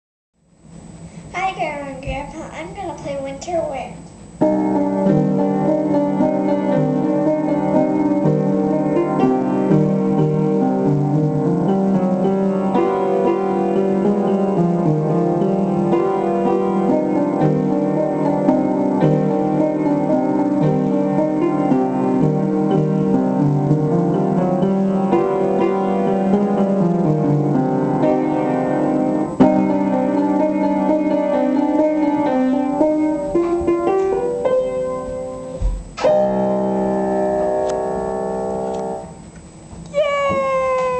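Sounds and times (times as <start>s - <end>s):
piano piece: 4.4s - 40.9s.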